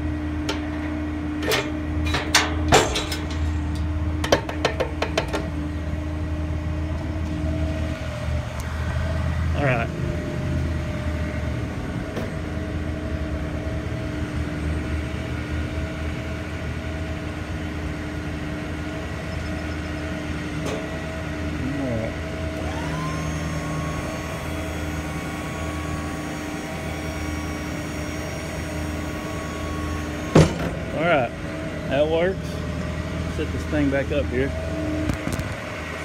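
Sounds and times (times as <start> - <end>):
diesel engine idling: 0.0 - 36.0
higher steady hum: 0.0 - 36.0.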